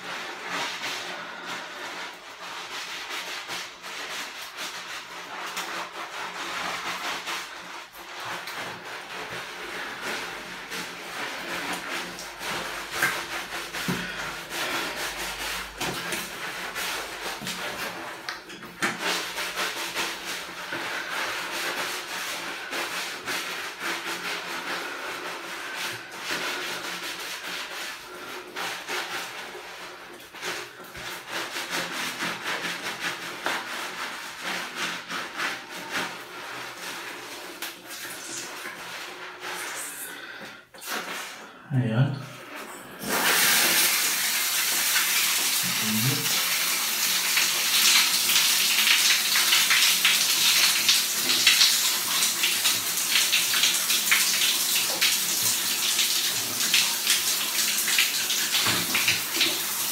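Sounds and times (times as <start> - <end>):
sponge scrubbing skin: 0.0 - 59.9.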